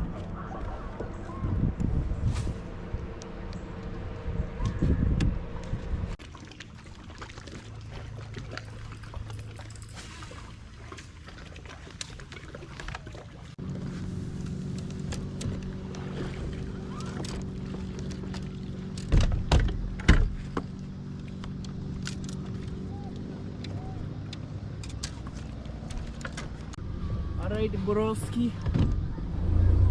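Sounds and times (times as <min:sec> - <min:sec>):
boat motor droning: 0:02.6 - 0:29.9.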